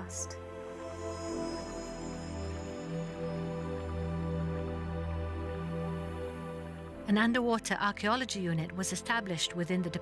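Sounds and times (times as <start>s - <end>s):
soft music with held chords: 0.0s - 10.0s.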